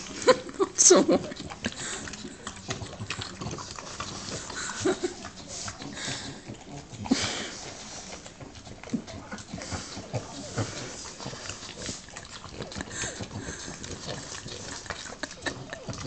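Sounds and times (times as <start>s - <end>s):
dogs breathing noisily: 0.0s - 16.0s
dogs licking and lip smacking: 0.0s - 16.0s.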